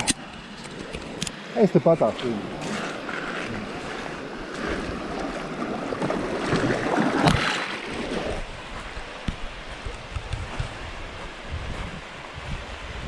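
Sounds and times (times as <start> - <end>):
feet splashing through water: 2.0 - 12.7.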